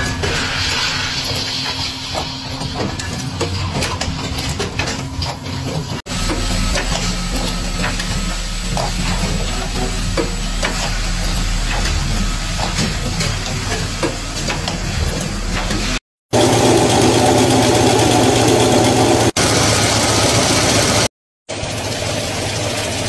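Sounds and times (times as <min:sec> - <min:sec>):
loom clattering: 0:00.0 - 0:21.1
tape-winding machine humming: 0:01.5 - 0:21.1.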